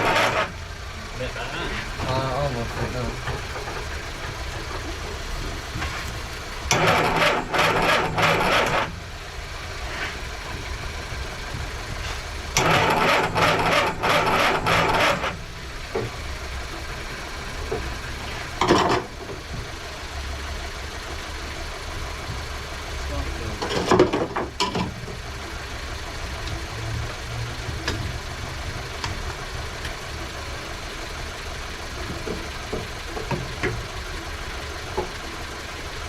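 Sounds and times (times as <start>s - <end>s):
car engine cranking on starter: 0.0s - 36.0s.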